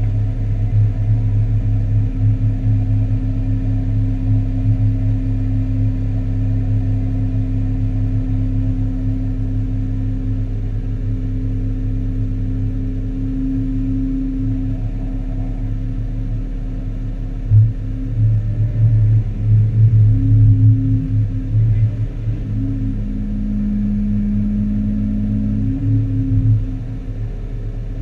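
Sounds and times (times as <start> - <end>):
excavator diesel engine droning: 0.0 - 28.0.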